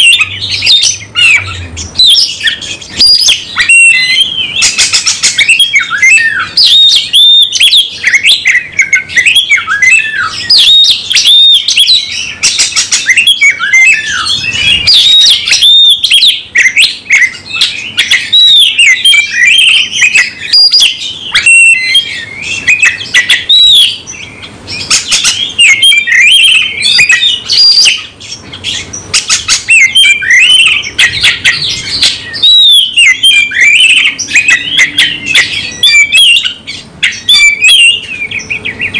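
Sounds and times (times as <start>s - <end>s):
bird singing whistles and chirps: 0.0s - 38.9s.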